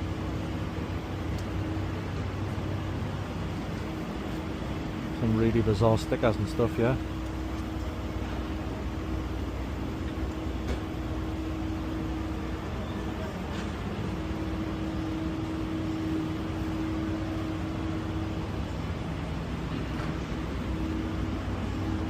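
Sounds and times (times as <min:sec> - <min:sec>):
city background noise: 0:00.0 - 0:22.0
constant low hum: 0:00.0 - 0:22.0.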